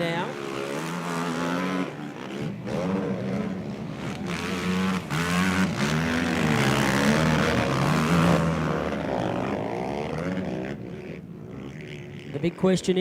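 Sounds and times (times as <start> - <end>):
quad bike engines revving: 0.0 - 13.0.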